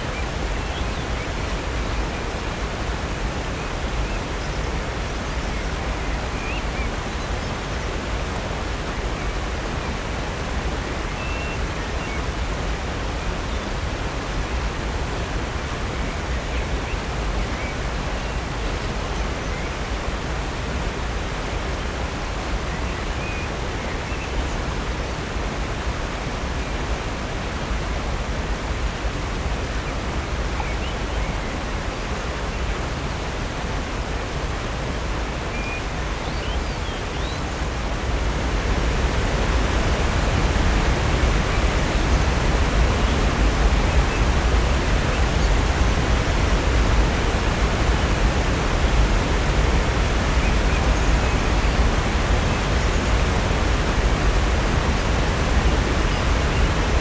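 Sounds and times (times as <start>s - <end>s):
falling water rushing: 0.0s - 57.0s.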